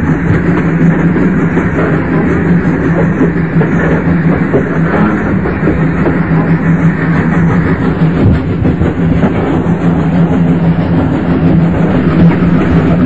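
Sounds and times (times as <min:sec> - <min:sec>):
low hum: 0:00.0 - 0:13.0
train wheels rumbling: 0:00.0 - 0:13.0.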